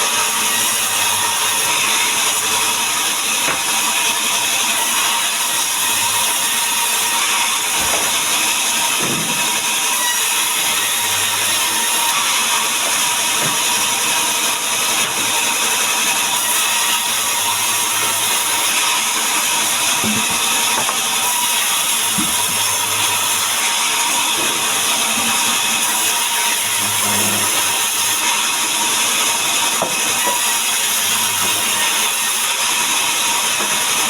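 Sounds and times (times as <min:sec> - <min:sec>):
power saw cutting wood: 0:00.0 - 0:34.0.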